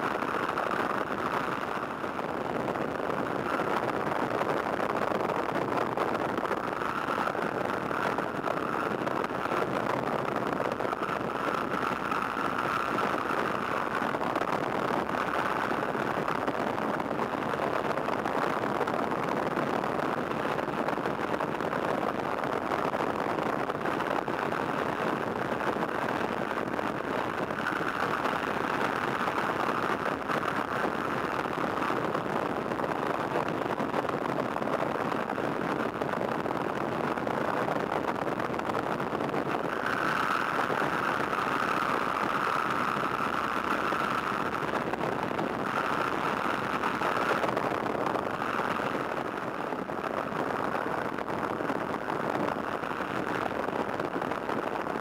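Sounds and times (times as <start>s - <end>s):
rushing slipstream wind: 0.0s - 55.0s.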